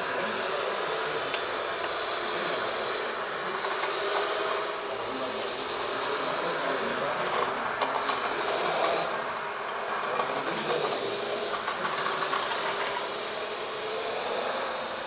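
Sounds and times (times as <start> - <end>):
model excavator whirring and clicking: 1.2 - 13.7.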